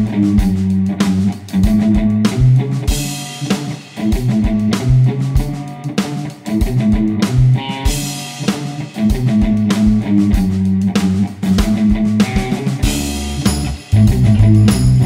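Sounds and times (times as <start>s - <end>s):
drum kit steady beat: 0.0s - 15.0s
guitar: 0.0s - 15.0s.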